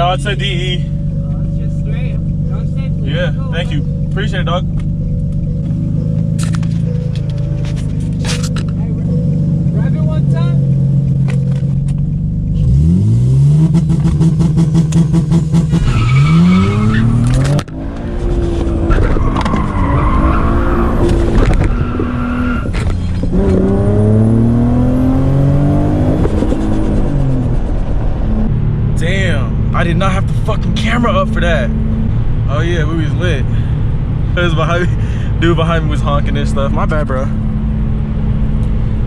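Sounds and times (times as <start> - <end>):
car engine accelerating through gears: 0.0 - 39.0.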